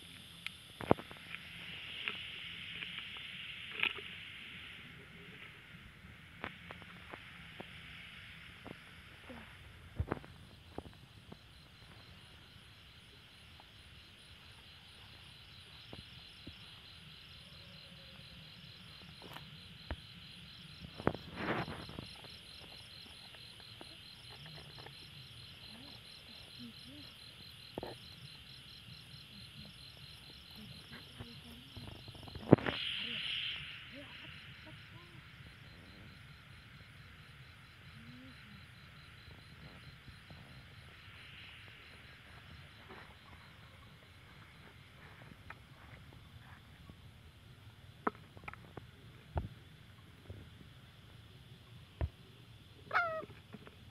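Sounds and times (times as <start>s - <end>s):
crickets chirring: 0.0s - 53.9s.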